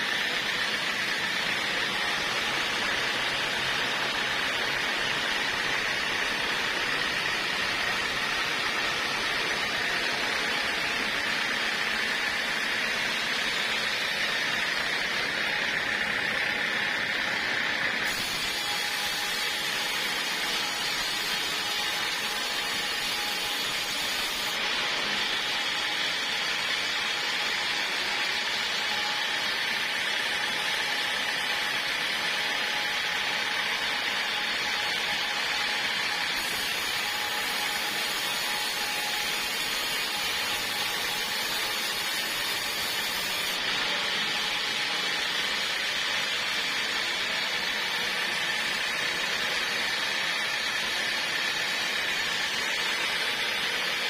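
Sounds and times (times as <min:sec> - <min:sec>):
sawmill running: 0:00.0 - 0:54.0.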